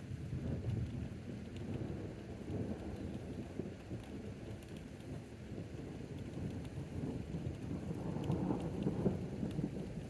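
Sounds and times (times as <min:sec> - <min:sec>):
light rain ticks: 0:00.0 - 0:10.0.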